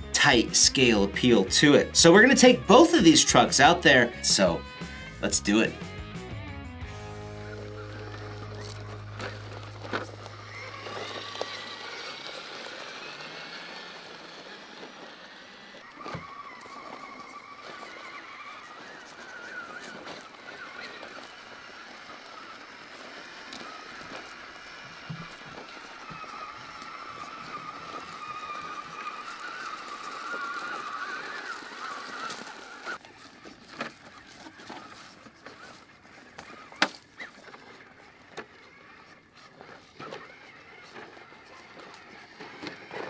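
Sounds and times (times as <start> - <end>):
electric motor gear whine: 0.0 - 43.0.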